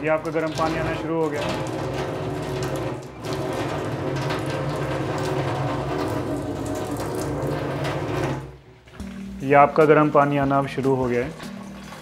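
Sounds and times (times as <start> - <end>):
tap water splashing into sink: 0.0 - 12.0.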